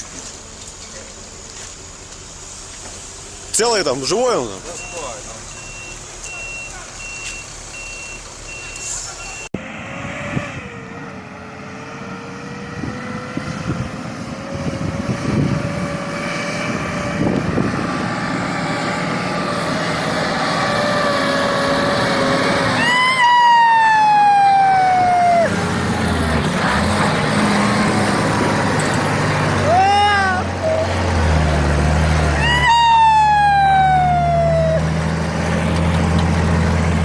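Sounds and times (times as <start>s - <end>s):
heavy vehicle engine whining: 0.0s - 37.0s.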